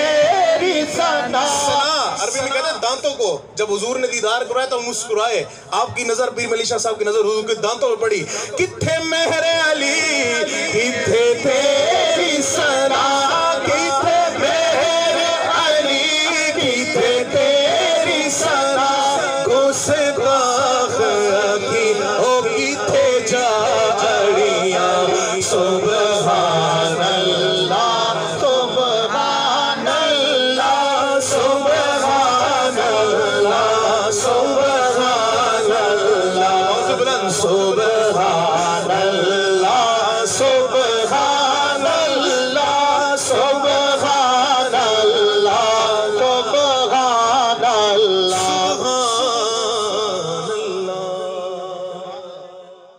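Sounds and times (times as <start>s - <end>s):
man singing into a microphone: 0.0s - 52.9s.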